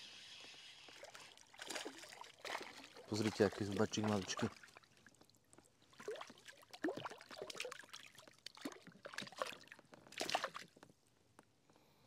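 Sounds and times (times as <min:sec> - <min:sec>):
water splashing and trickling: 0:00.2 - 0:10.8.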